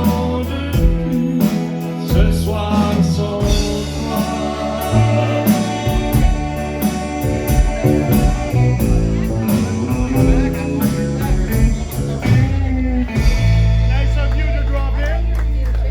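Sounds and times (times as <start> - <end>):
electric guitar: 0.0 - 15.9
live band playing: 0.0 - 15.9.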